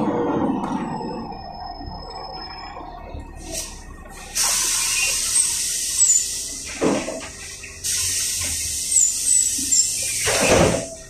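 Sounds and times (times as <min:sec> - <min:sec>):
wind and road noise inside bus: 0:00.0 - 0:11.0.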